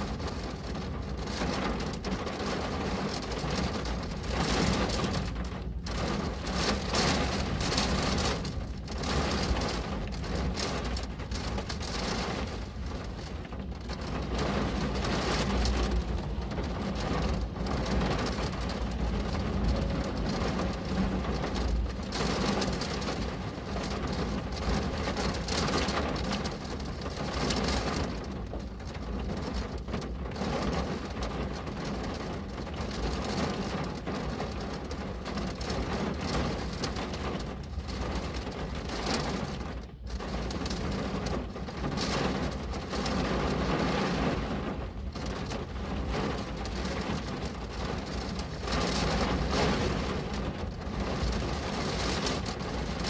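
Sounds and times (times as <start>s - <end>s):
rain pattering on a window: 0.0s - 53.0s.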